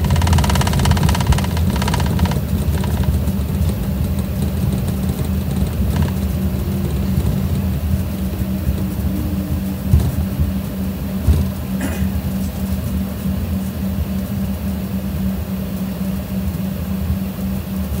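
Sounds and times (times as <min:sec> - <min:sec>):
jet engines idling hum: 0:00.0 - 0:18.0.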